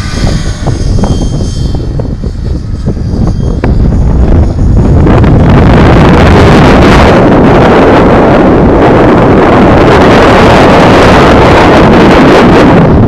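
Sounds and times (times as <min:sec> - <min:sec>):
rc helicopter rotor rushing: 0:00.0 - 0:13.0
wind buffeting microphone: 0:00.0 - 0:13.0.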